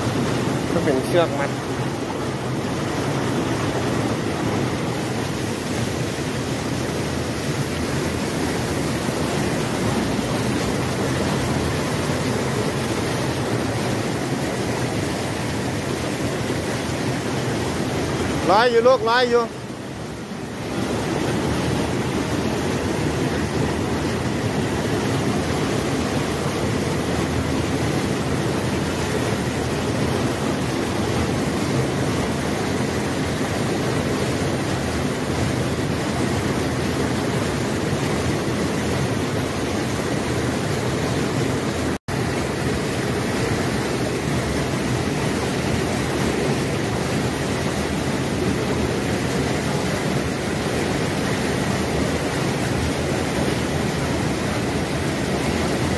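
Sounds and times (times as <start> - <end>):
water rushing over a weir: 0.0 - 55.9.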